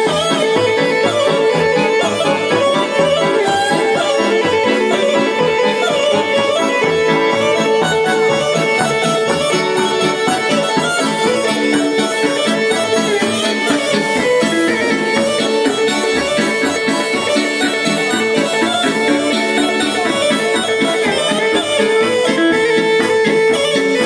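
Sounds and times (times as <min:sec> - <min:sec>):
folk dance music with accordion: 0:00.0 - 0:24.0.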